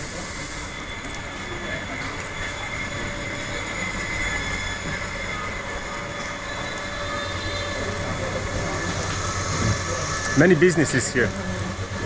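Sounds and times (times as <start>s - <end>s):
high-pitched whines: 0.0s - 12.0s
street din: 0.0s - 12.0s.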